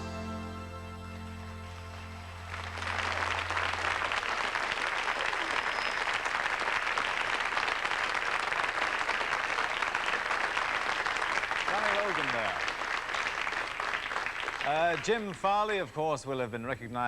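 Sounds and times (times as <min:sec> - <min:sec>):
audience applauding: 0:01.3 - 0:15.9.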